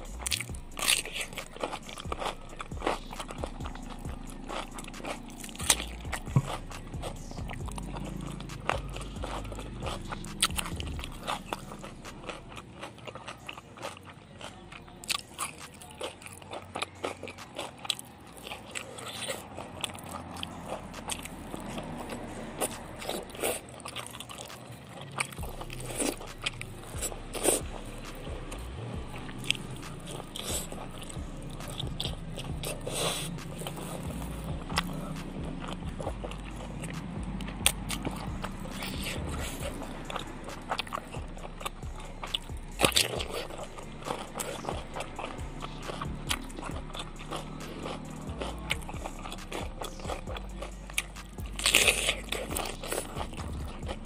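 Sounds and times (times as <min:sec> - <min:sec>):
person chewing and crunching: 0:00.0 - 0:54.0.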